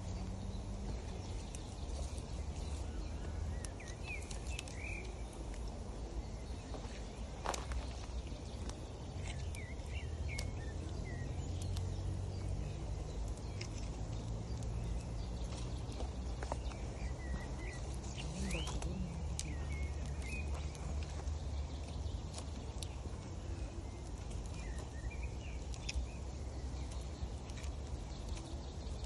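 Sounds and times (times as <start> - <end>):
small birds chirping: 0.0 - 29.0
wood fire crackling and popping: 0.2 - 6.0, 6.6 - 29.0.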